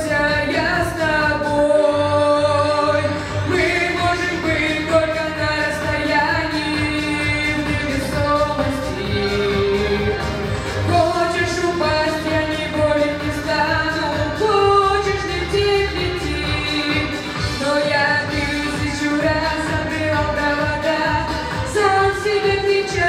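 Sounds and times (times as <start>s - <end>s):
boy singing into microphone: 0.0s - 10.3s, 10.9s - 23.0s
backing music with steady beat: 0.0s - 23.0s.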